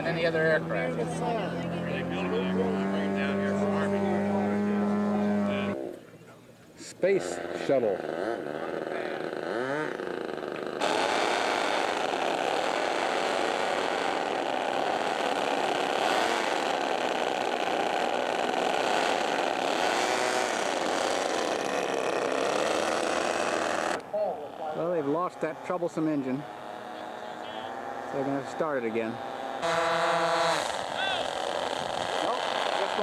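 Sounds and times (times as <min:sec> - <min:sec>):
model airplane engine buzzing: 0:00.0 - 0:06.0, 0:07.0 - 0:33.0.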